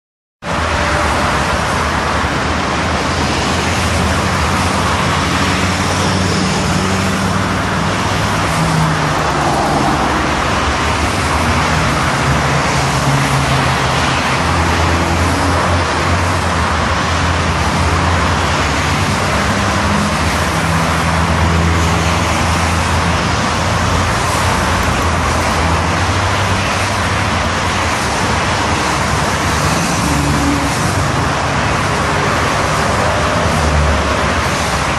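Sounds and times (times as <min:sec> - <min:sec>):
road traffic noise: 0:00.4 - 0:34.9.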